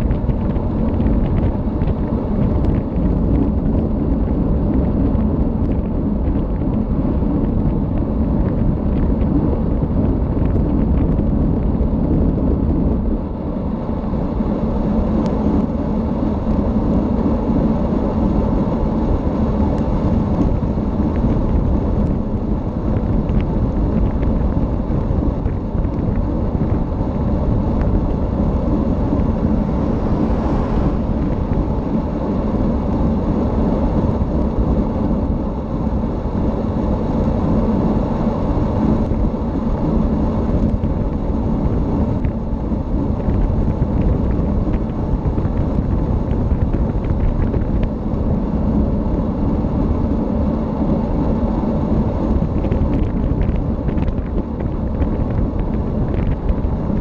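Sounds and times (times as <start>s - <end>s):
low hum: 0.0s - 57.0s
tyre and road noise: 0.0s - 57.0s
wind on microphone: 0.0s - 57.0s.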